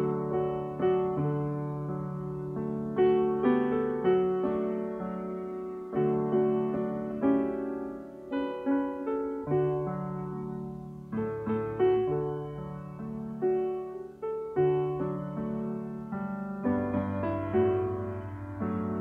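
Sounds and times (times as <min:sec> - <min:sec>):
slow gentle piano piece: 0:00.0 - 0:19.0.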